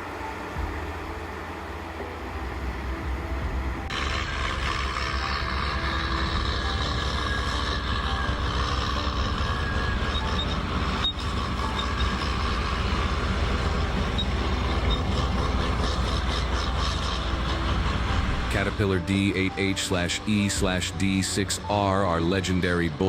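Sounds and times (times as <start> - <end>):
heavy diesel engines running: 0.0 - 23.0.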